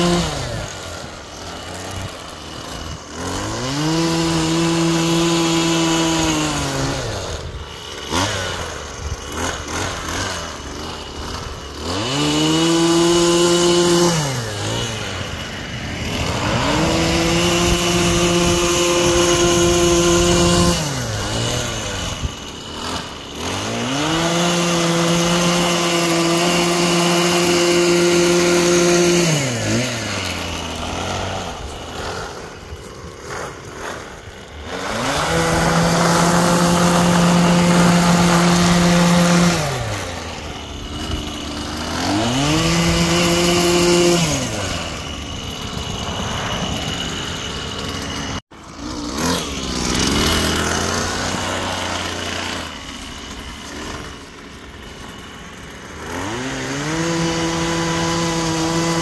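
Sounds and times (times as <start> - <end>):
small gas engine revving: 0.0 - 59.0.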